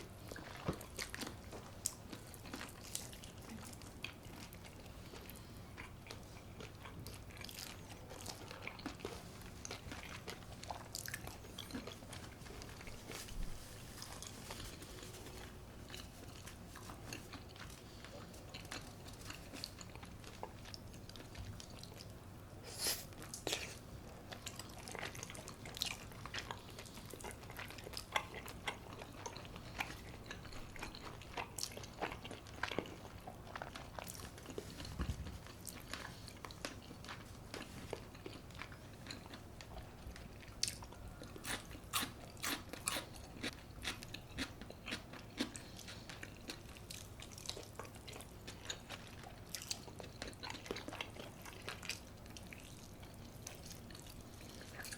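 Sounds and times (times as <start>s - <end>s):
chewing crunchy food: 0.0s - 22.3s, 23.1s - 54.9s.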